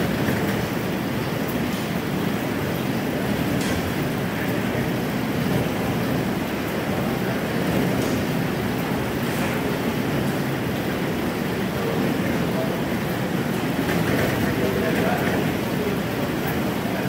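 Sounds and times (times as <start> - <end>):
conveyor machine rumbling: 0.0 - 17.0.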